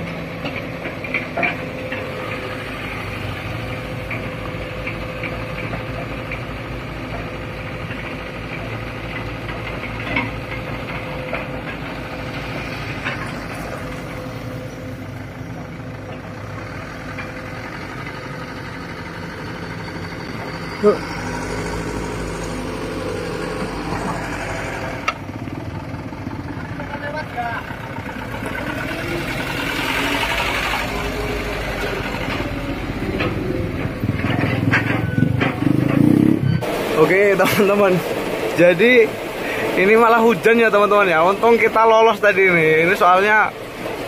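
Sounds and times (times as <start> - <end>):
diesel engines idling: 0.0 - 44.0.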